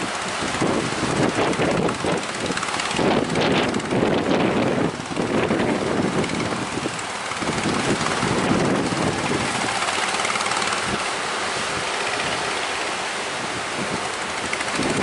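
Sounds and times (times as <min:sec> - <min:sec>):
rush of wind and water: 0:00.0 - 0:15.0
speedboat engine running: 0:00.0 - 0:15.0.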